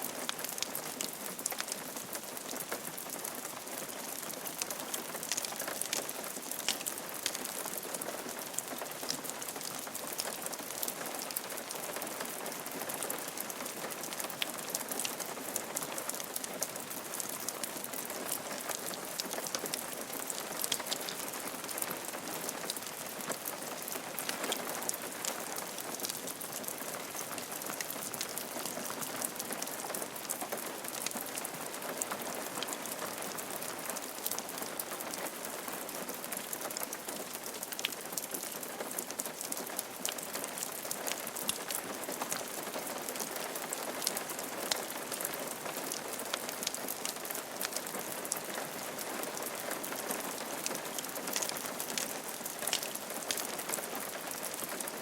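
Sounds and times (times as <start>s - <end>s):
rain drops on a roof: 0.0s - 55.0s.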